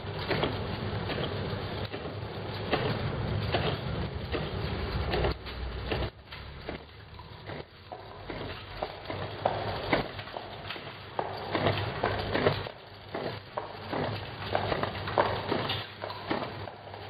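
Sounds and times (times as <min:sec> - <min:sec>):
labeling machine clicking and knocking: 0:00.0 - 0:17.0.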